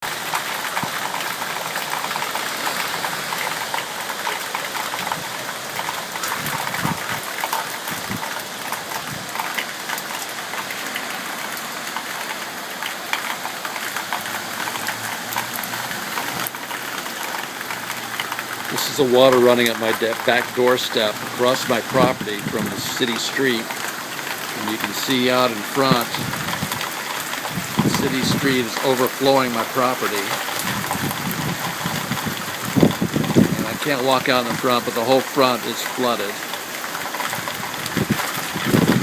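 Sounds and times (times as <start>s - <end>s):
rain pattering: 0.0s - 39.0s
rainwater running and splashing: 0.0s - 39.0s.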